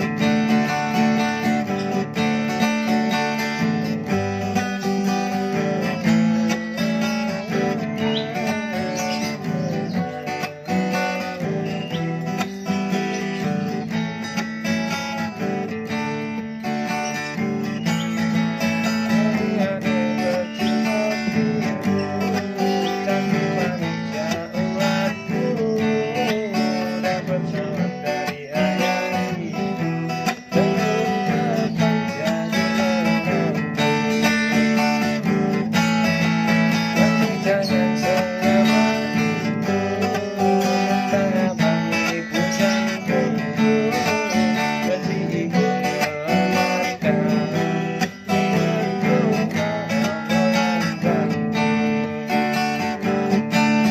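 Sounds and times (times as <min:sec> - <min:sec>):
wavering melody line: 0:00.0 - 0:52.9
acoustic guitar strumming: 0:00.0 - 0:53.9.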